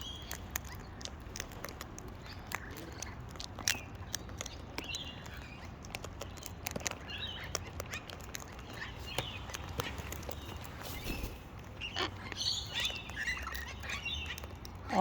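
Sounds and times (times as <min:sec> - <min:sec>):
birds pecking and cracking seeds: 0:00.0 - 0:15.0.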